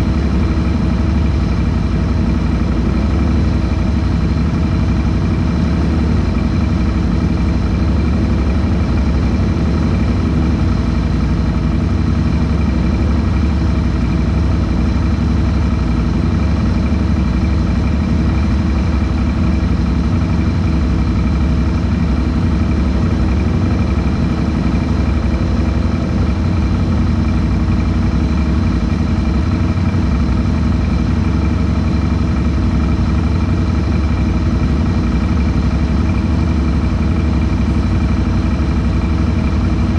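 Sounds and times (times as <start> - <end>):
atv engine idling: 0.0 - 39.9.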